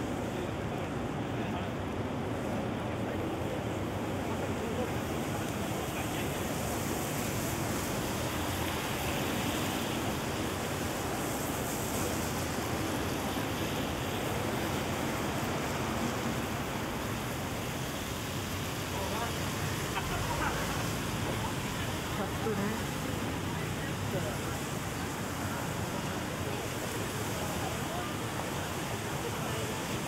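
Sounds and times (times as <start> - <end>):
rain on wet street: 0.0 - 30.0.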